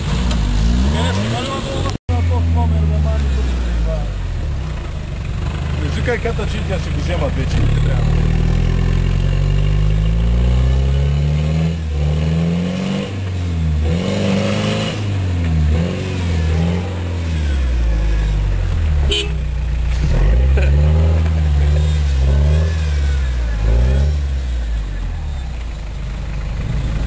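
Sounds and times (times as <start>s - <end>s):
turbo engine revving: 0.0s - 27.0s.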